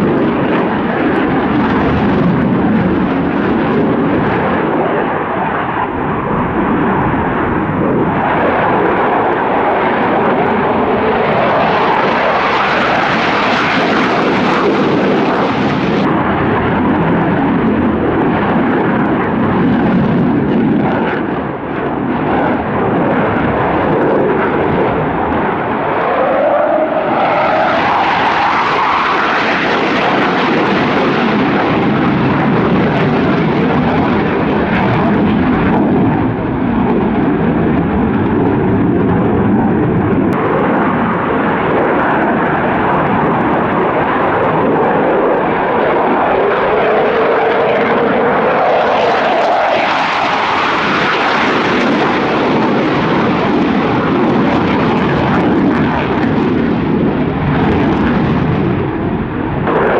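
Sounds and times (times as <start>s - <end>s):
jet roar with whine: 0.0s - 59.9s.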